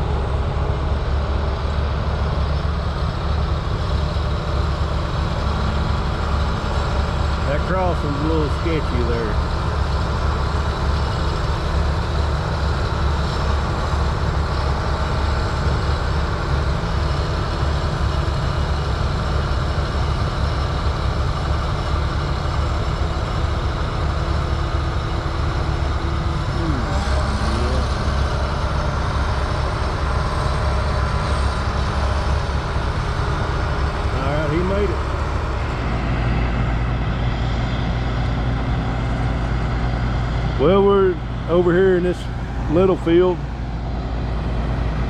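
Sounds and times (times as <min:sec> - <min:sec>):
diesel machinery engine rumbling: 0:00.0 - 0:45.0.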